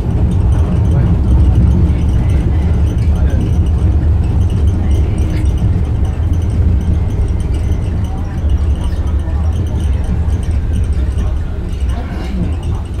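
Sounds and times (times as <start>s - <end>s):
suspension train rumbling: 0.0s - 13.0s.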